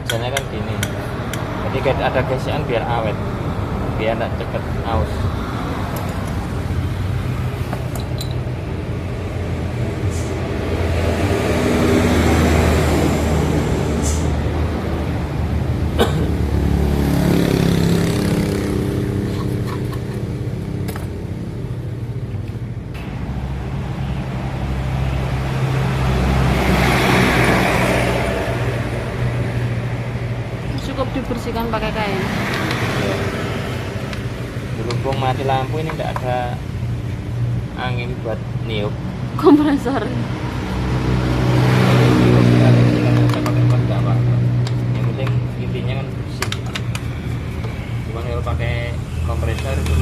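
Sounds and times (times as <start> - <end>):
vehicles passing on road: 0.0 - 50.0.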